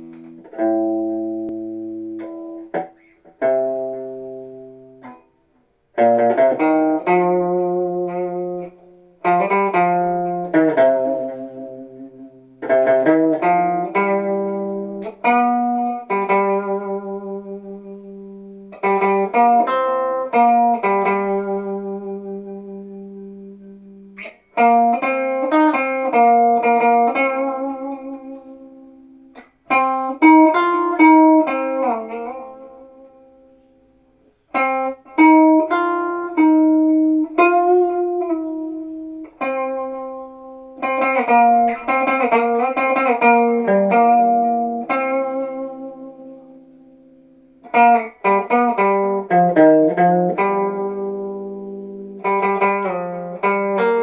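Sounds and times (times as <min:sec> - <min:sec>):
plucked string instrument: 0:00.0 - 0:54.0.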